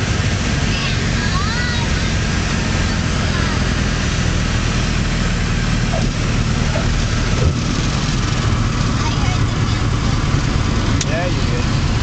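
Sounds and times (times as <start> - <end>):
propeller aircraft engine: 0.0 - 12.0.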